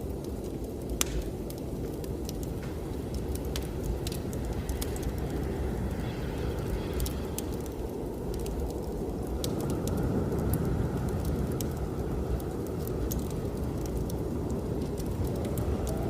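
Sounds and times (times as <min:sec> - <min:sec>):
blizzard wind rushing: 0:00.0 - 0:16.0
wood fire crackling: 0:00.0 - 0:16.0.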